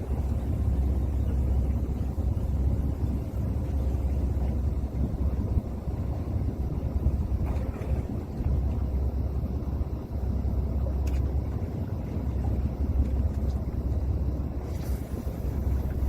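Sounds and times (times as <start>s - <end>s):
boat low rumble: 0.0s - 16.0s.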